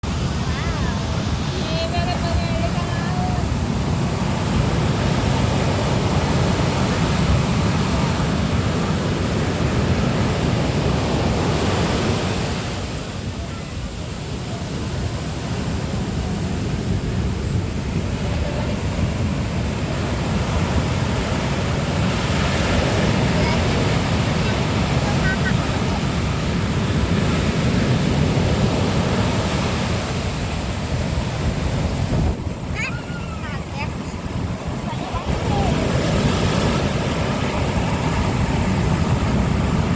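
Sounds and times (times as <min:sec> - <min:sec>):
waves breaking on a beach: 0:00.0 - 0:39.9
wind buffeting microphone: 0:00.0 - 0:39.9.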